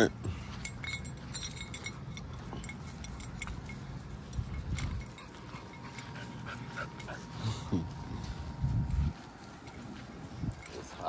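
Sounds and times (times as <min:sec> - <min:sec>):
metallic jingling and clinking: 0:00.0 - 0:08.4, 0:09.1 - 0:11.0
low rumble of movement: 0:00.2 - 0:11.0.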